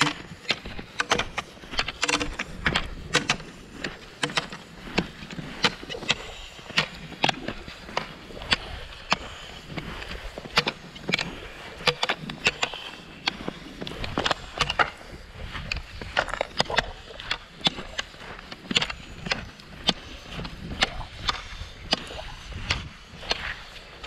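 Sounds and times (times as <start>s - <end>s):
ski poles planting: 0.0s - 24.0s
skis sliding on snow: 0.0s - 24.0s.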